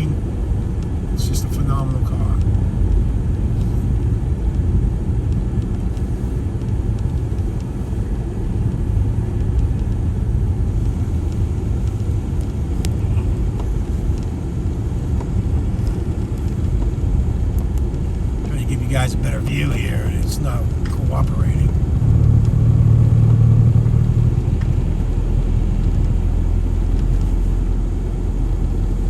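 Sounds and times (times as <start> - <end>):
car cabin engine and road rumble: 0.0 - 29.0.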